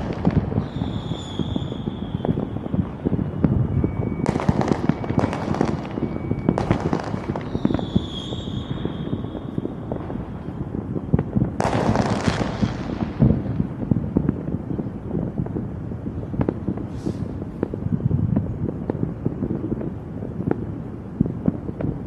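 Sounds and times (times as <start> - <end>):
fireworks bangs and pops: 0.0 - 22.0
fireworks crackling: 0.0 - 22.0
whistling firework: 0.0 - 22.0.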